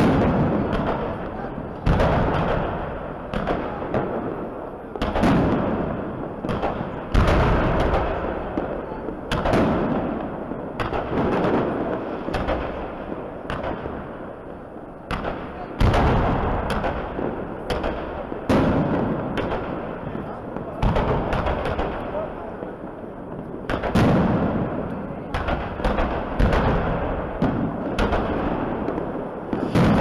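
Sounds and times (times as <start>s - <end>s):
fireworks bangs with echoing rumble: 0.0s - 30.0s.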